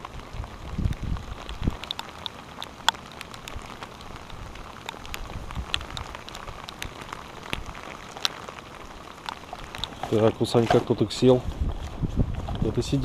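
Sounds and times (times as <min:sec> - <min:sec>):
rain falling: 0:00.0 - 0:13.0
raindrops ticking on a surface: 0:00.0 - 0:13.0.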